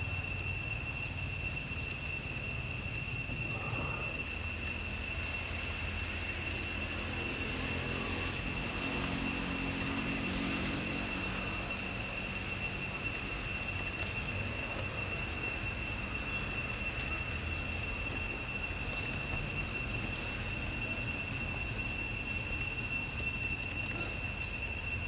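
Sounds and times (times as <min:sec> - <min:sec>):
faint drone: 0:00.0 - 0:25.0
high-pitched whine: 0:00.0 - 0:25.0.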